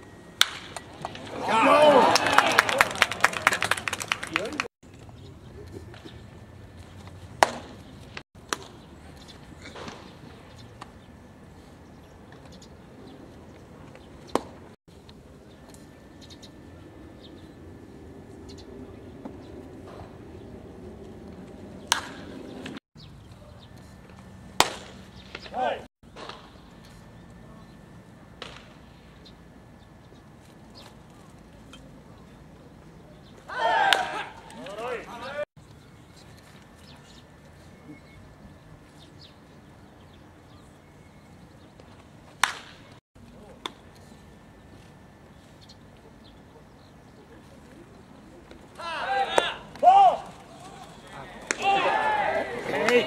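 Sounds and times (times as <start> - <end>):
faint ballpark background: 0.0 - 53.0.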